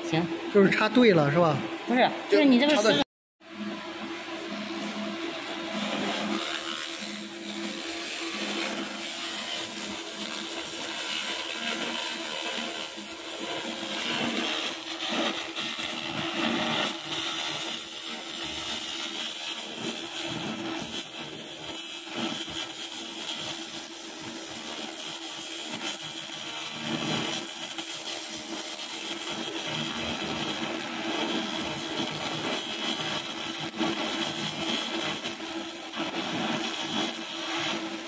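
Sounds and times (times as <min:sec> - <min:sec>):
laser crackling hiss: 0:05.6 - 0:38.0.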